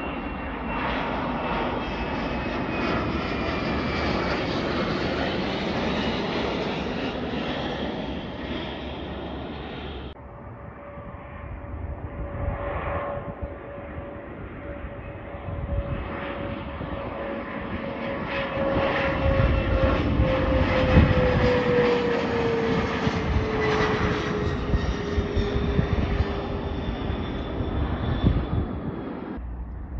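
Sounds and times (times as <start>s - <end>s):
aircraft roar: 0.0s - 29.9s
jet flying overhead: 0.0s - 29.9s.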